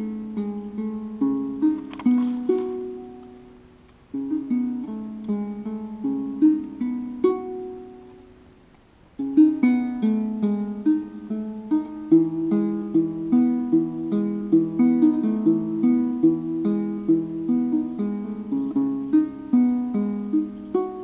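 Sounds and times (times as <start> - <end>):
harp-lute plucked melody: 0.0 - 21.0.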